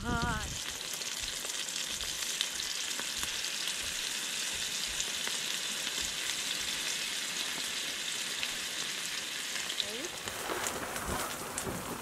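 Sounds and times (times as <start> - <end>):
food frying sizzle: 0.0 - 12.0.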